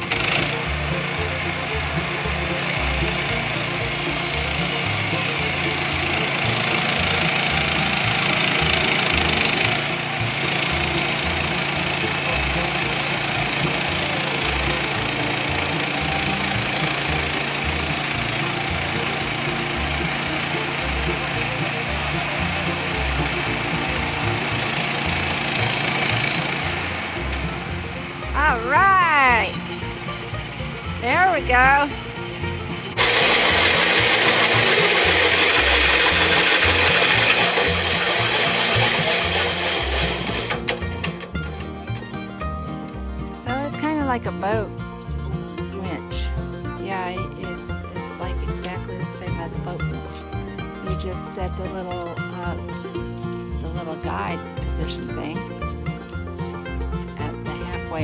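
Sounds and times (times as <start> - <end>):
gasoline engine running: 0.0 - 58.0.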